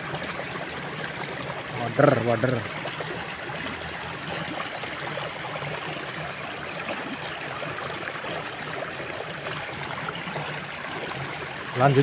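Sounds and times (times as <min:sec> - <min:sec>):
water flowing in a ditch: 0:00.0 - 0:12.0.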